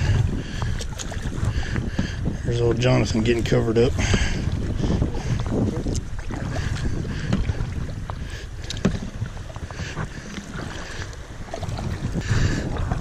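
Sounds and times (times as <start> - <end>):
paddle splashing in water: 0.0 - 13.0
water washing along hull: 0.0 - 13.0
wind buffeting microphone: 0.0 - 13.0.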